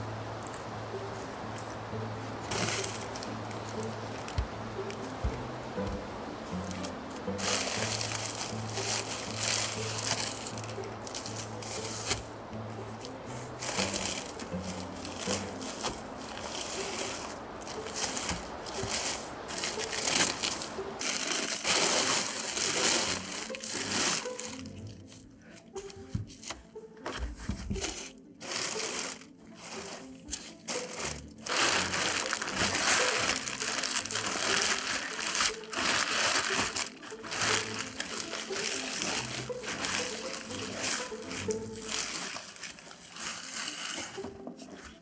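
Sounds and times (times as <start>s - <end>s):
plastic bag rustling and crinkling: 2.4s - 25.2s, 27.2s - 45.0s.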